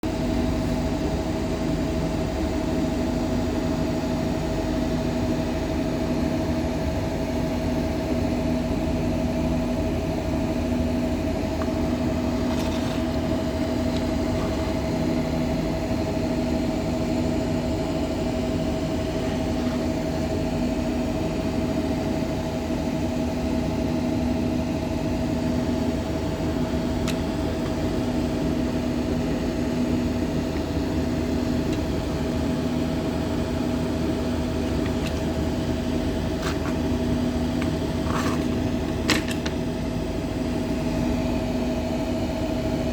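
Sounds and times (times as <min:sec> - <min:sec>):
mill machinery rumble and whine: 0:00.0 - 0:42.9.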